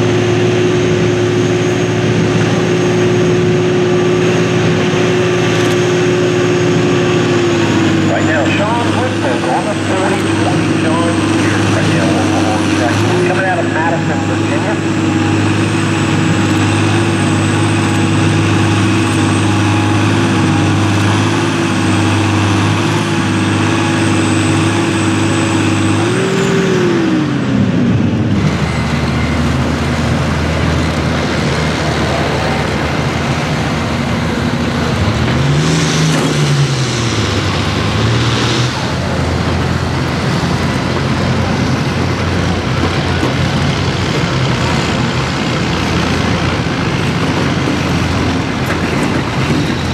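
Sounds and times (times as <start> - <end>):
tractor diesel engine droning: 0.0 - 49.9
tractor engine pulling hard: 0.0 - 49.9.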